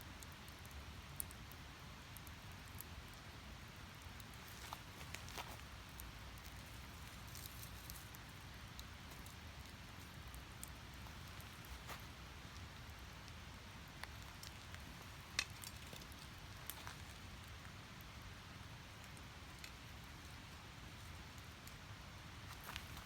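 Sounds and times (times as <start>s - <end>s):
faint steady hiss: 0.0s - 23.0s
firewood crackling and popping: 0.1s - 23.0s.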